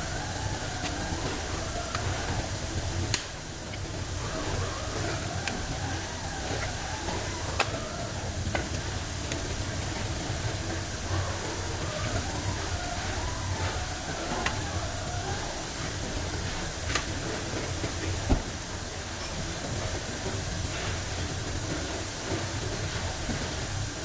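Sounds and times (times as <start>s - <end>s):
workshop low hum: 0.0s - 24.0s.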